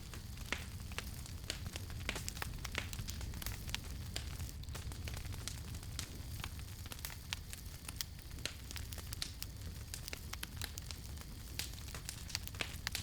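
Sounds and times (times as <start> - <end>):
campfire crackling and popping: 0.0 - 13.0
low rumble of flames: 0.0 - 13.0.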